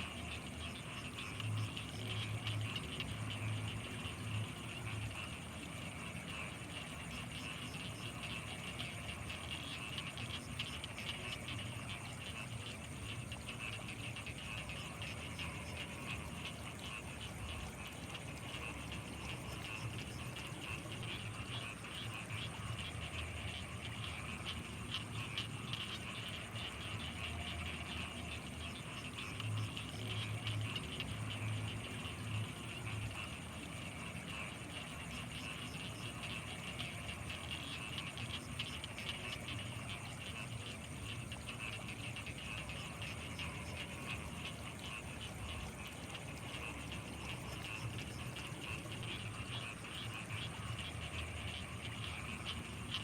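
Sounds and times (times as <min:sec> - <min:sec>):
frogs and insects trilling: 0:00.0 - 0:53.0
high insect whine: 0:00.0 - 0:53.0
low pulsing frog croaks: 0:00.0 - 0:53.0.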